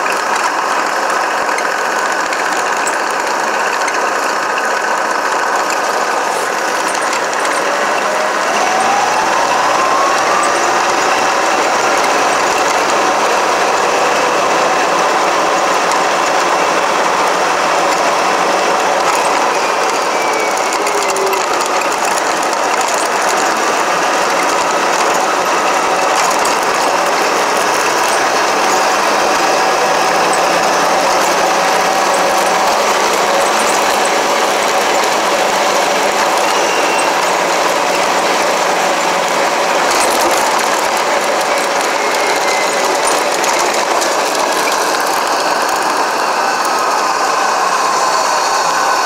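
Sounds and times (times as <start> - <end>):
rc car motor whining: 0.0 - 49.0
gritty gear rattle: 0.2 - 13.9, 15.6 - 46.8.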